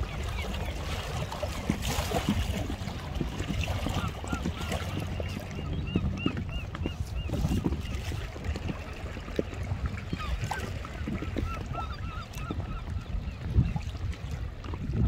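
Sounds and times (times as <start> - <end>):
water around a kayak: 0.0 - 15.0
wind: 0.0 - 15.0.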